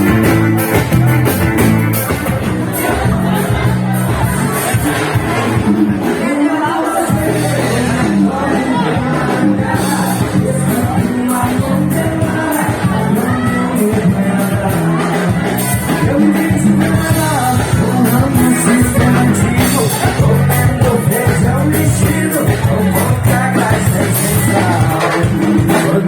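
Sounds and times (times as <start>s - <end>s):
live band with singer: 0.0s - 26.0s.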